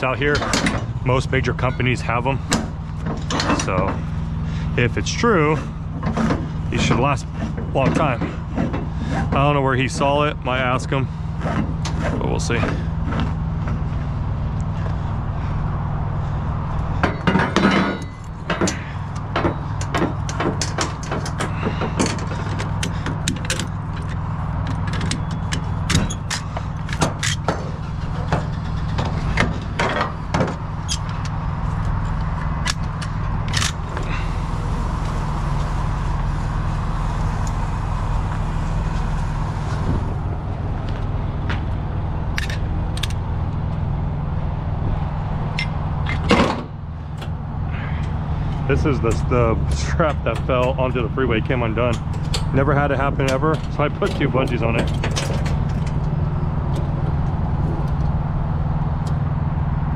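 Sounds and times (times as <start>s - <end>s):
metallic clanks: 0.0s - 15.6s, 16.2s - 44.1s, 45.5s - 58.2s
truck engine idling: 0.0s - 59.9s.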